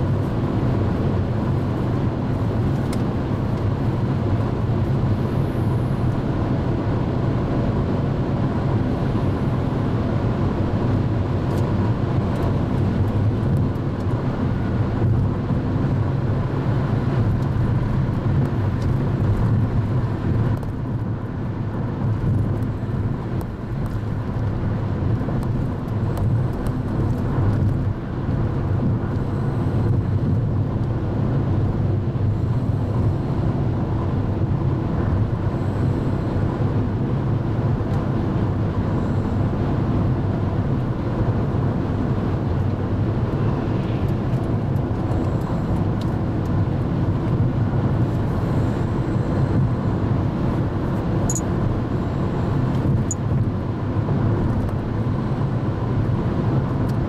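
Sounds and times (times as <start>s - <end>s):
car road and engine drone: 0.0s - 57.0s.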